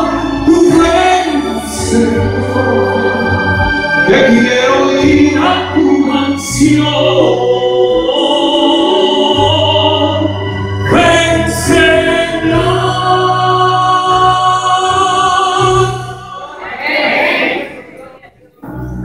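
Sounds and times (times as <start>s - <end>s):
man singing into a microphone: 0.0s - 16.4s
musical accompaniment with bass line: 0.0s - 16.5s, 18.6s - 19.0s.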